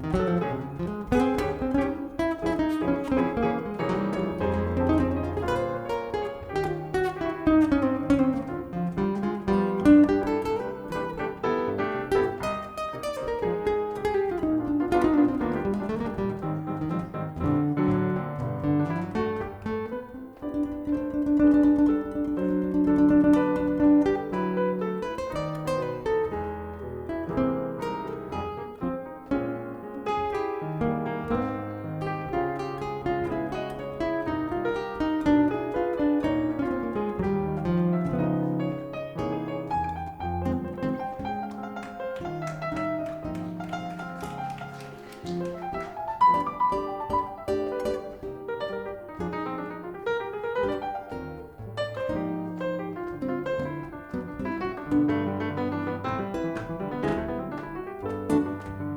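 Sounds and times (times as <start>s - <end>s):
acoustic guitar: 0.0s - 58.9s
jazz piano: 0.0s - 58.9s.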